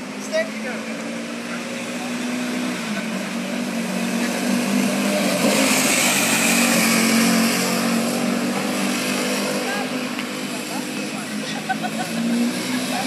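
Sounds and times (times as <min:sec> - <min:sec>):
race car engine passing: 0:00.0 - 0:13.0.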